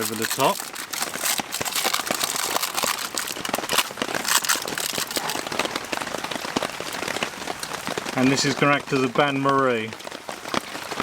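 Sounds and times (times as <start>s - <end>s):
heavy rain on tent fabric: 0.0s - 11.0s.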